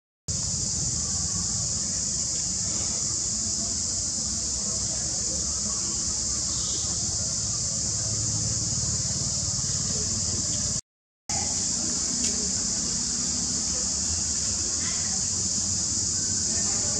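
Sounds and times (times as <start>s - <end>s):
insects droning: 0.3s - 16.9s.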